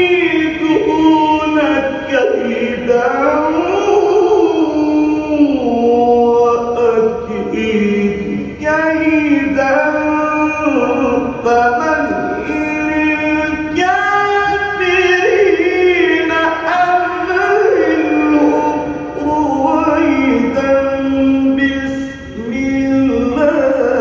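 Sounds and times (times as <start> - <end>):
man reciting melodically: 0.0 - 24.0.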